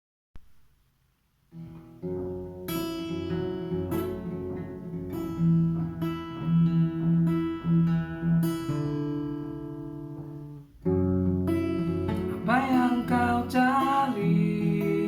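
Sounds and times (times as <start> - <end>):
acoustic guitar chords: 1.5 - 15.0.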